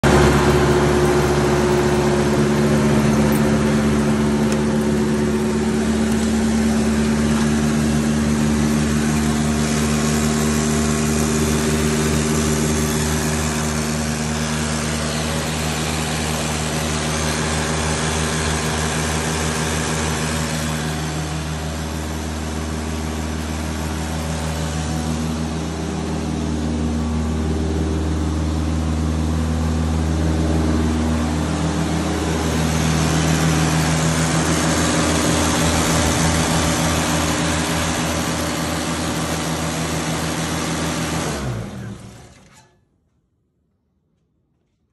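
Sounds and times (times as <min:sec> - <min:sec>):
car engine idling: 0:00.0 - 0:42.2.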